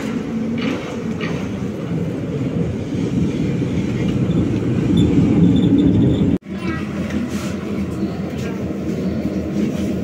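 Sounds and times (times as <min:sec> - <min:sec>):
tram rumbling along track: 0:00.0 - 0:10.0.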